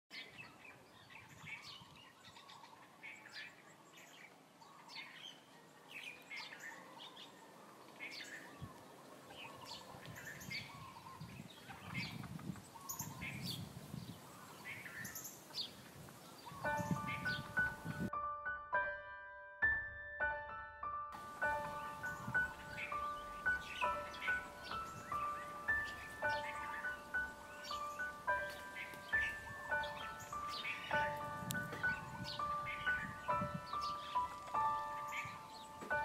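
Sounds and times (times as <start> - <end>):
birds chirping: 0.1 - 18.1, 21.2 - 36.0.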